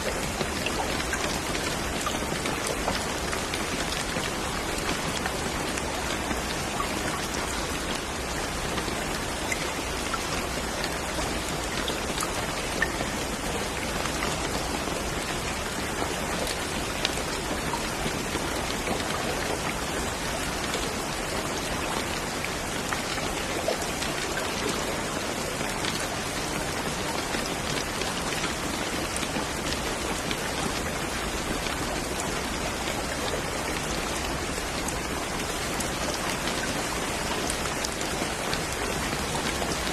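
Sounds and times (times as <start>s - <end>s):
rain falling: 0.0s - 39.9s
raindrops pattering on surface: 0.0s - 39.9s.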